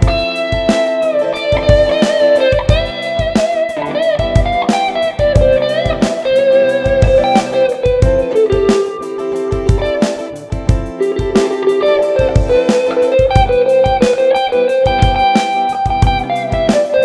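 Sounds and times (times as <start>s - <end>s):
electric guitar lead with bends: 0.0s - 17.0s
steady beat: 0.0s - 17.0s.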